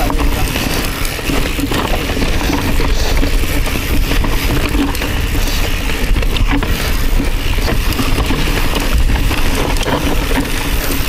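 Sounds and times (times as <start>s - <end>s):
bike rattling over loose rock: 0.0s - 11.0s
wind on microphone: 0.0s - 11.0s.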